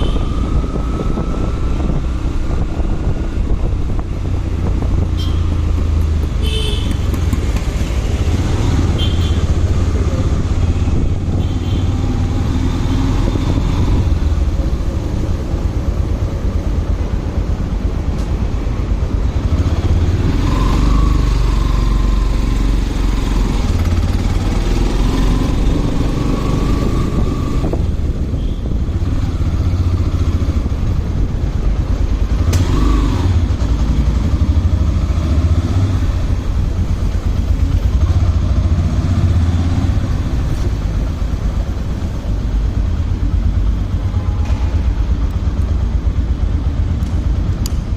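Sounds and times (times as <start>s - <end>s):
motorcycle engine rumble: 0.0s - 47.9s
road and wind noise: 0.0s - 47.9s.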